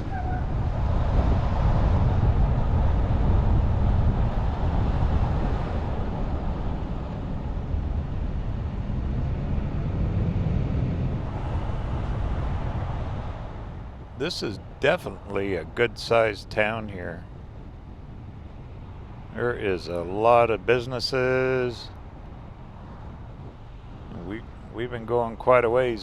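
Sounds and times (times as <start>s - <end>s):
road noise hiss: 0.0s - 26.0s
vehicle road noise rumble: 0.0s - 26.0s.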